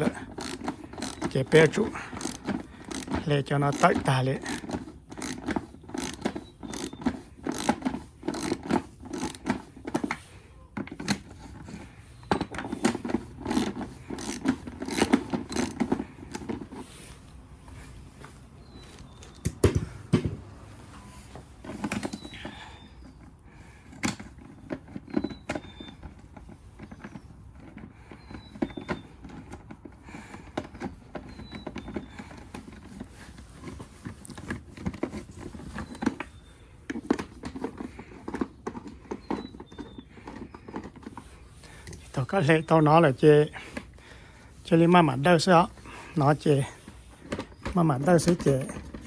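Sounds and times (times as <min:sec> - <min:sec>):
hand tools clicking and scraping: 0:00.0 - 0:49.0.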